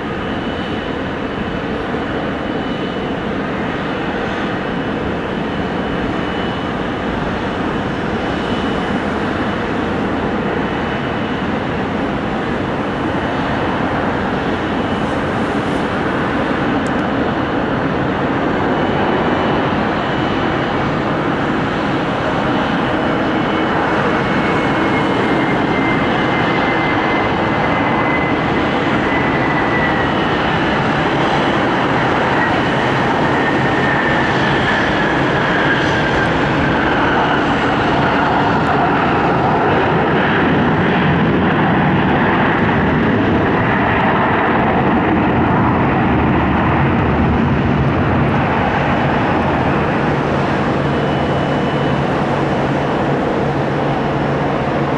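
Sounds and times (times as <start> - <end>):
jet engine roar: 0.0 - 54.9.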